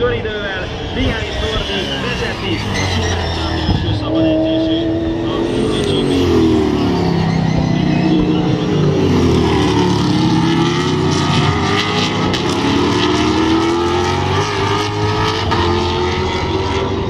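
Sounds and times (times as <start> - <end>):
race car engines accelerating: 0.0 - 17.0.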